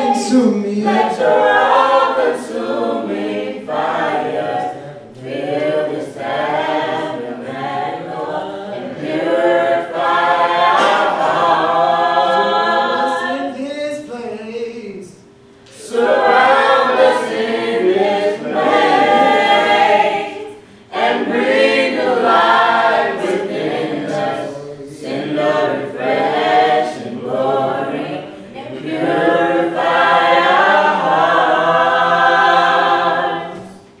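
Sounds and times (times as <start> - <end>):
men and women singing together: 0.0 - 15.0, 15.7 - 34.0.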